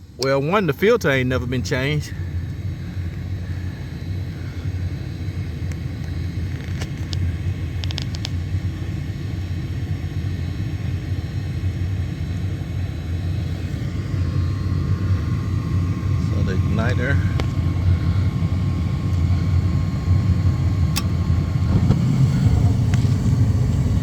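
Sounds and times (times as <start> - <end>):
gas furnace rumbling: 0.0 - 24.0.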